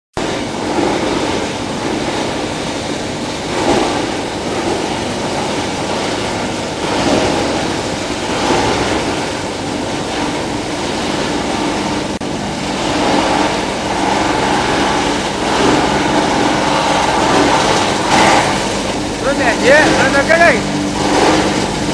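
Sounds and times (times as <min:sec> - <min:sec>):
washing line machinery running: 0:00.1 - 0:21.9.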